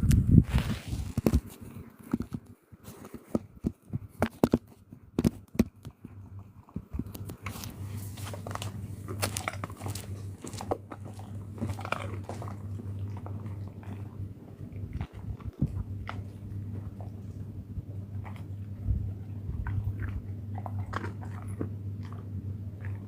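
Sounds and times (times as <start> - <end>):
low steady hum: 0.0 - 23.0
animal chewing food: 4.0 - 23.0.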